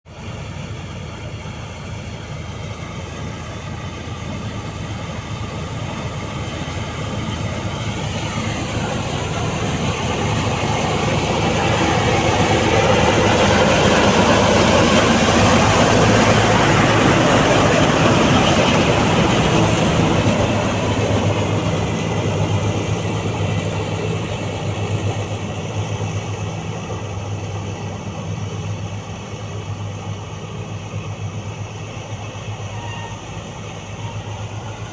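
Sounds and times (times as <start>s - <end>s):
combine harvester drone: 0.1s - 34.9s.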